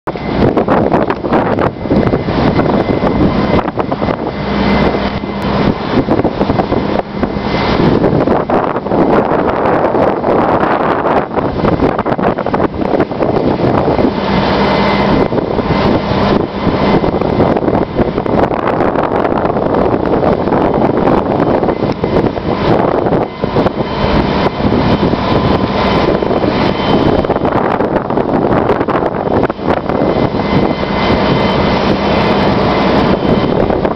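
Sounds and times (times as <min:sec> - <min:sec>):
diesel engine droning: 0:00.0 - 0:33.9
low hum: 0:00.0 - 0:33.9
wind buffeting microphone: 0:00.0 - 0:33.9.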